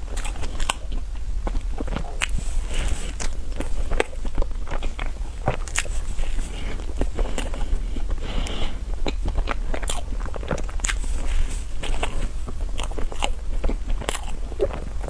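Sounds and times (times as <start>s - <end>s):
pastry being chewed: 0.0s - 15.0s.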